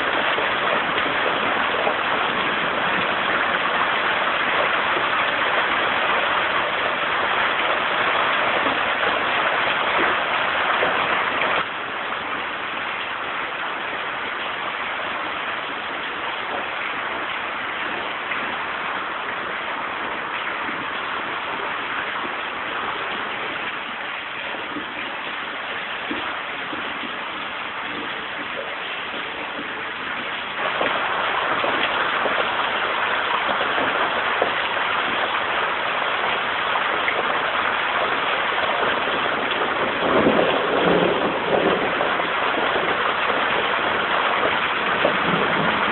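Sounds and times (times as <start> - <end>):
storm water rushing: 0.0 - 45.9.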